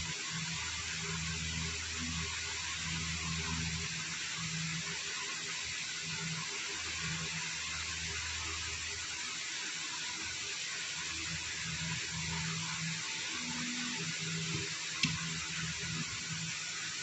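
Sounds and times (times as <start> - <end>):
room noise hiss: 0.0 - 17.0.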